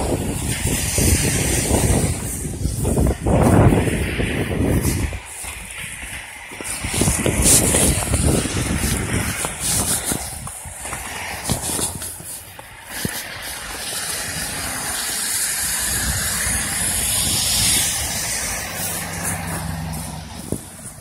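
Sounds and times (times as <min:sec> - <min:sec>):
car engine humming: 0:00.0 - 0:21.0
tyres hissing through slush: 0:00.0 - 0:21.0.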